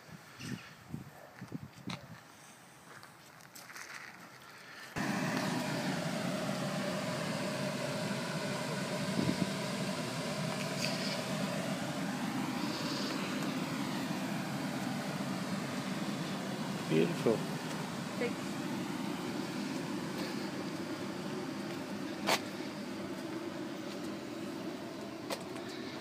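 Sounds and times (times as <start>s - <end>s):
faint outdoor background: 0.0s - 26.0s
steady mechanical drone: 5.0s - 26.0s.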